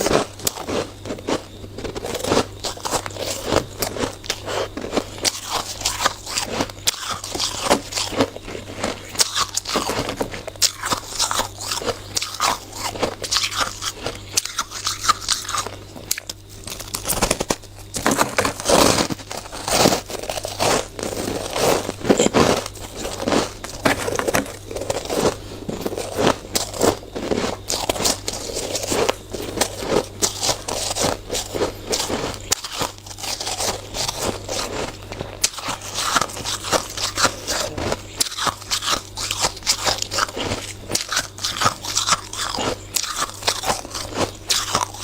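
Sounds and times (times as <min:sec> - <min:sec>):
person chewing shaved ice: 0:00.0 - 0:45.0.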